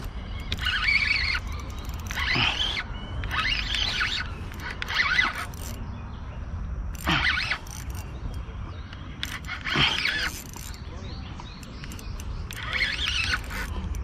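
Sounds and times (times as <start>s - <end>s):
fishing reel drag buzzing: 0.0s - 5.8s, 6.9s - 8.4s, 9.2s - 10.9s, 11.6s - 14.0s.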